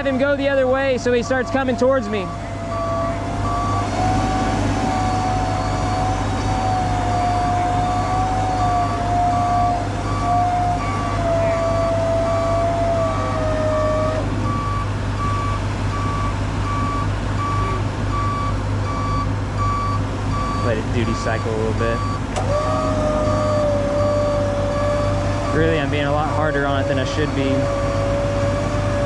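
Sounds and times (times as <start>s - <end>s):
electric winch motor whine: 0.0s - 29.0s
engine idling hum: 0.0s - 29.0s
reversing alarm beeping: 0.0s - 29.0s.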